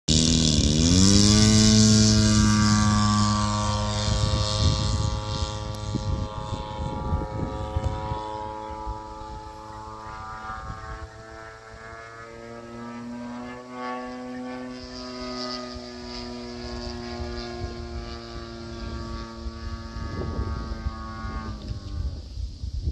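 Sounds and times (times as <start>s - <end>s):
model plane motor whine: 0.1s - 22.9s.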